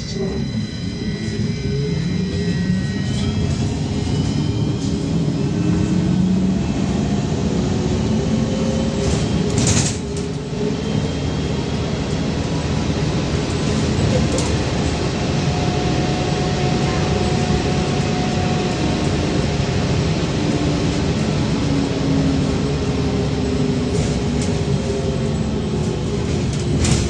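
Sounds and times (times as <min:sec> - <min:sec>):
trolleybus cabin running noise: 0:00.0 - 0:27.0.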